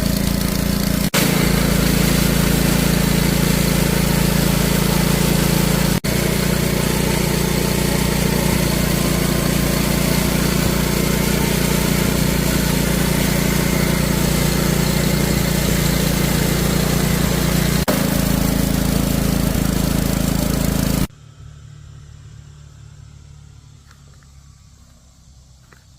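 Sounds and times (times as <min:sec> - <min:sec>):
band sawmill running: 0:00.0 - 0:22.1.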